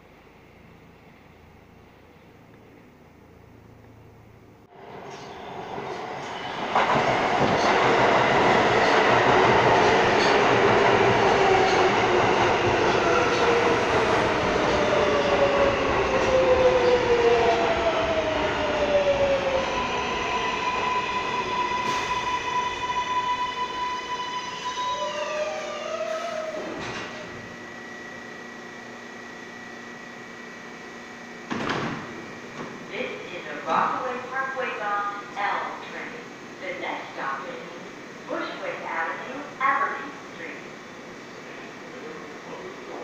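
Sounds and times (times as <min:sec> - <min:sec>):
faint high hum of train: 0:00.0 - 0:43.0.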